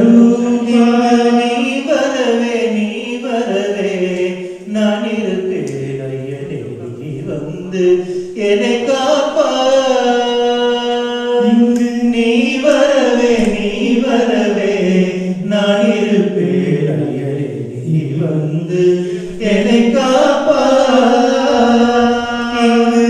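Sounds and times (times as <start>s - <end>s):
devotional chanting: 0.0s - 23.0s.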